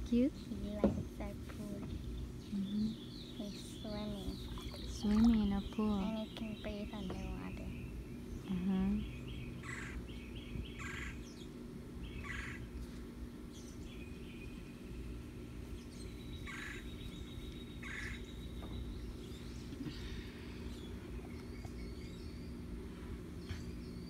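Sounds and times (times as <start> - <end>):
birds chirping: 0.0 - 24.0
pool pump humming: 0.0 - 24.0.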